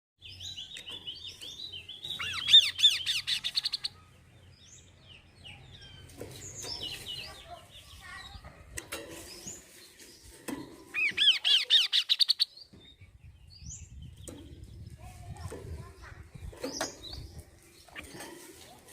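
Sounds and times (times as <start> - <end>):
bird chirping: 0.2 - 18.8.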